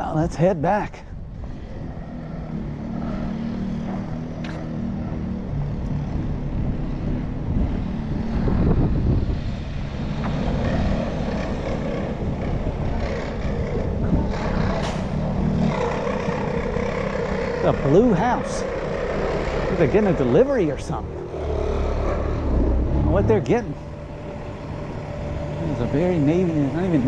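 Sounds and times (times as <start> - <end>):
passing vehicle engine drone: 1.2 - 27.0.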